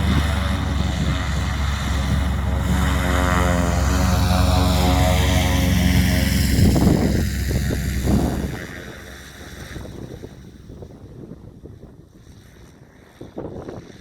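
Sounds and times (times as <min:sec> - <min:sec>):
propeller engine drone: 0:00.0 - 0:14.0
wind gusts on microphone: 0:00.0 - 0:14.0.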